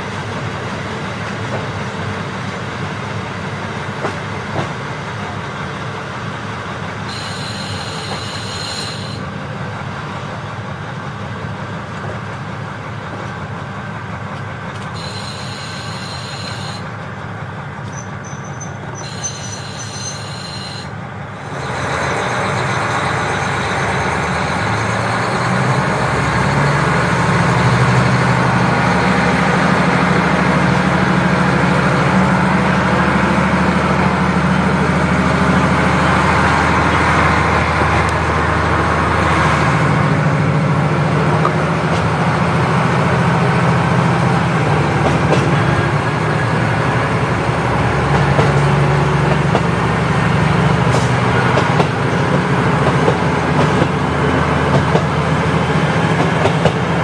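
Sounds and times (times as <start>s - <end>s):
diesel railcar engine: 0.0s - 57.0s.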